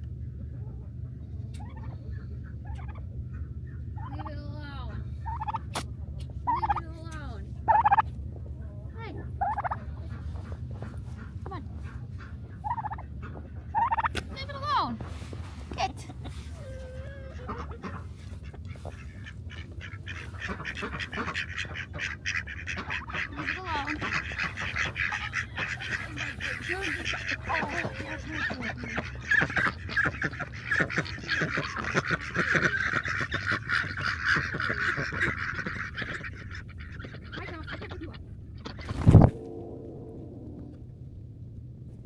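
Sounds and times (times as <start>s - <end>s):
ducks quacking: 0.7s - 8.4s, 9.0s - 40.8s.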